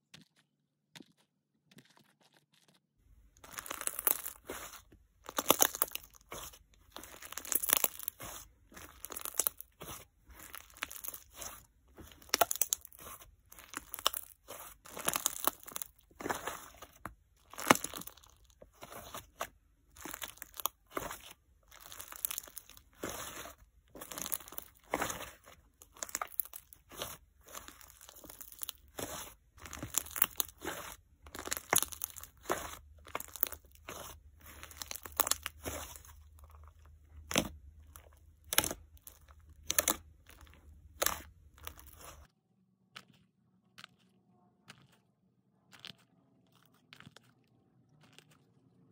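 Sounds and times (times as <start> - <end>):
slime squishing: 1.8 - 42.3, 43.0 - 48.9.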